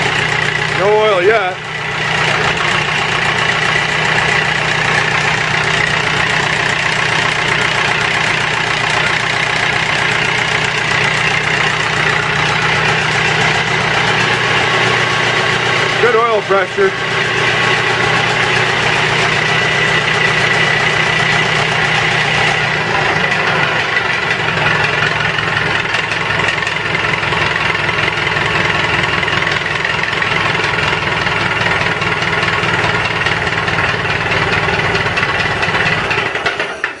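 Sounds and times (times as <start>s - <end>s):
tractor engine idling: 0.0s - 37.0s.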